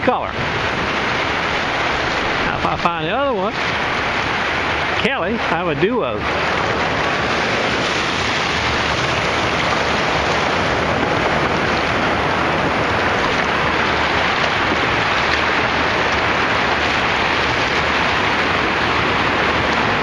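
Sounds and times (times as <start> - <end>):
surf washing over sand: 0.0 - 20.0.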